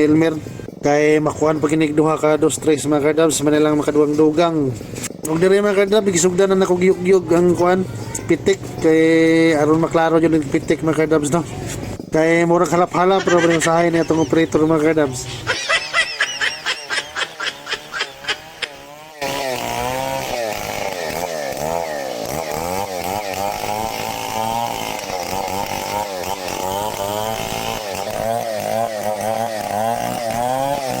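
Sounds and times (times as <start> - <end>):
chainsaw cutting timber: 3.4 - 7.6, 8.5 - 31.0.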